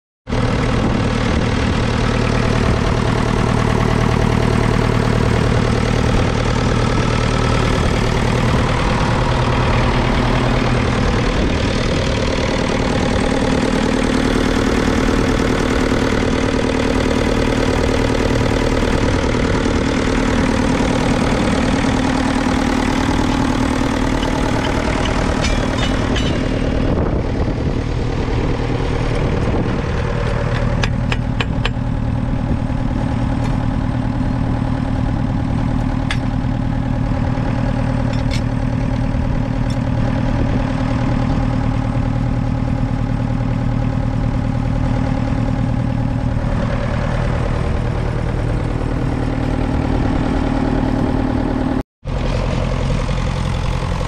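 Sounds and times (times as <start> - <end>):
tractor diesel engine idling: 0.3 - 54.0.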